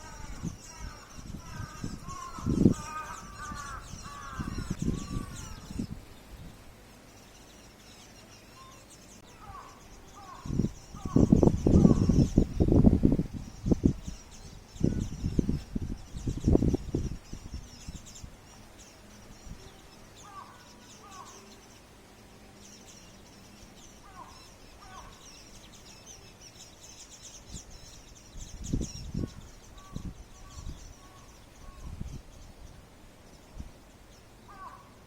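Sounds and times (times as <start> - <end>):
small birds twittering: 0.0 - 35.0.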